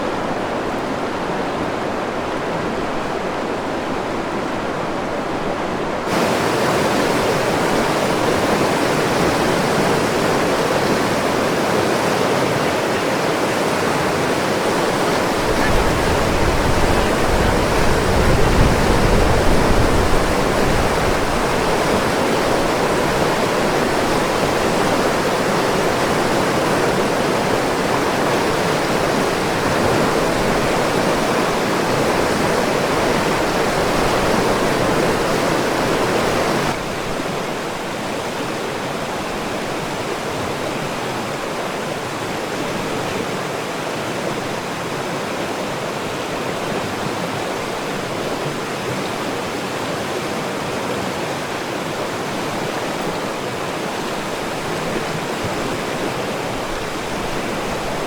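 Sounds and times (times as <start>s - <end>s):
fast water rushing: 0.0s - 58.0s.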